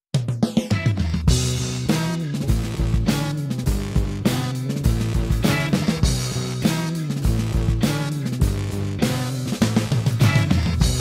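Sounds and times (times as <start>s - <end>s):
instrumental rock music: 0.1s - 11.0s
steady drum beat: 0.1s - 11.0s.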